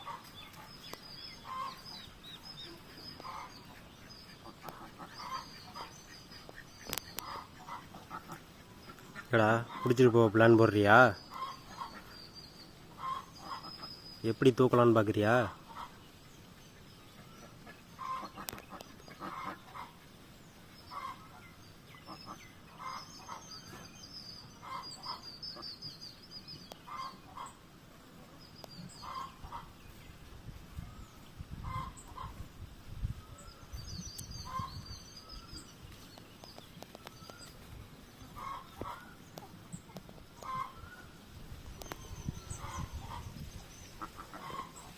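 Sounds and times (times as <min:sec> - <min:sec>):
chickens clucking: 0:00.0 - 0:25.8, 0:26.5 - 0:30.8, 0:31.5 - 0:32.5, 0:34.2 - 0:44.9.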